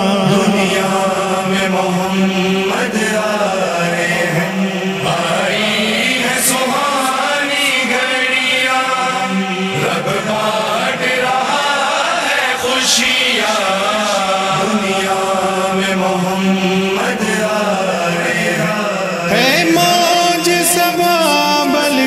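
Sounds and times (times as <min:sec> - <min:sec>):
man singing in chanting style: 0:00.0 - 0:22.0.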